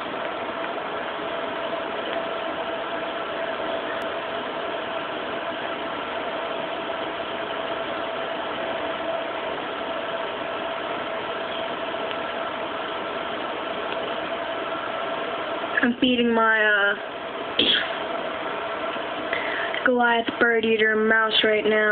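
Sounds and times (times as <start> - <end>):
mechanical hum: 0.0 - 21.9.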